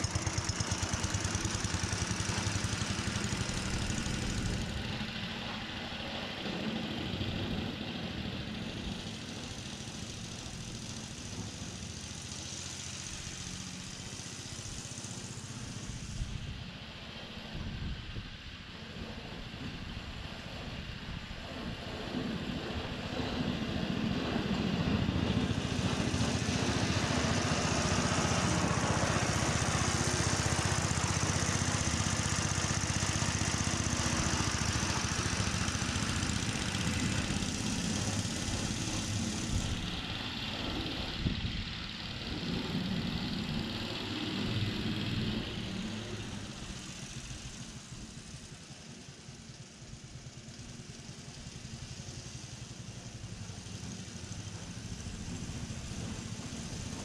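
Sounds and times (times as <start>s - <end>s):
lawn mower engine running: 0.0s - 16.8s, 21.5s - 57.0s.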